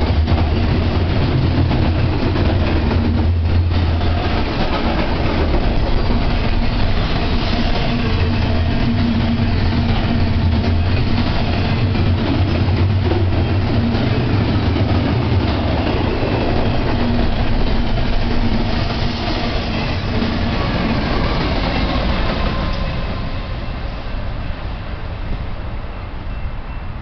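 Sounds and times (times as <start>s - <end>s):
steel wheels rumbling on rail: 0.0s - 27.0s.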